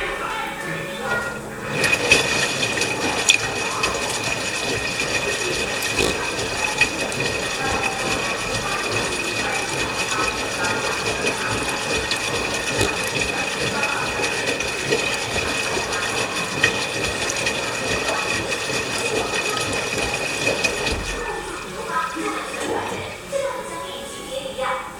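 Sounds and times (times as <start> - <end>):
washing machine running: 0.0 - 24.9.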